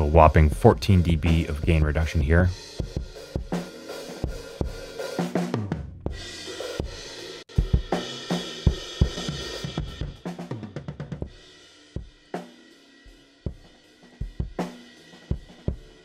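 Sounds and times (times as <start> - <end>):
compressed drum kit playing: 0.0 - 16.0.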